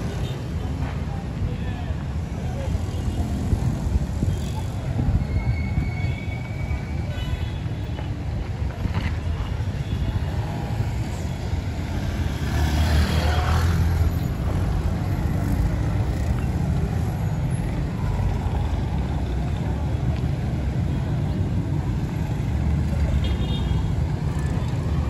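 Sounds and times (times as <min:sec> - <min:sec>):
traffic engines rumbling: 0:00.0 - 0:25.0.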